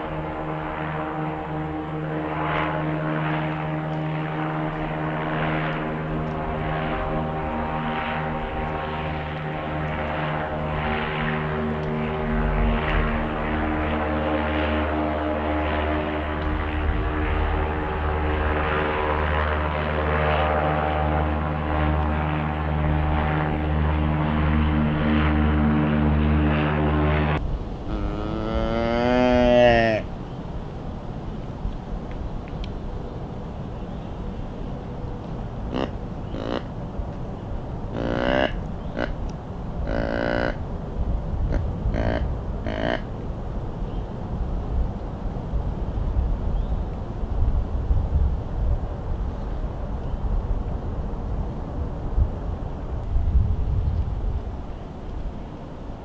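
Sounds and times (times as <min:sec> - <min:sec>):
blimp propeller engines humming: 0:00.0 - 0:56.0.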